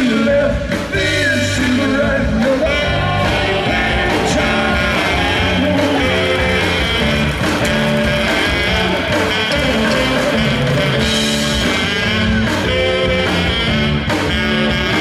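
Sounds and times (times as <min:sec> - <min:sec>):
person singing: 0:00.0 - 0:13.8
rock band playing: 0:00.0 - 0:15.0.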